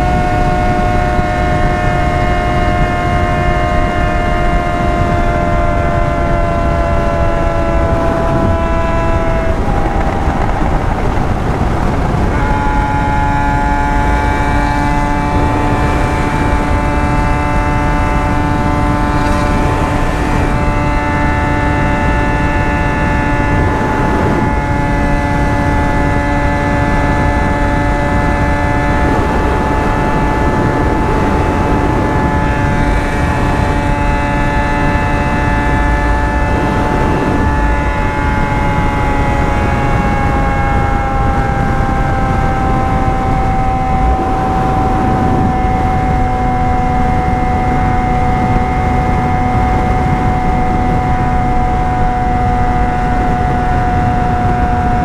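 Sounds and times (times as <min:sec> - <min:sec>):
motorcycle engine cruising: 0:00.0 - 0:55.0
wind rushing on microphone: 0:00.0 - 0:55.0.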